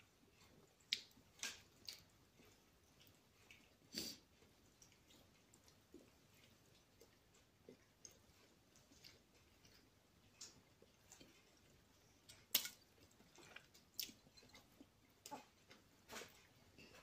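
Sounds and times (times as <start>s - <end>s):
chewing with wet mouth clicks: 0.0s - 15.9s.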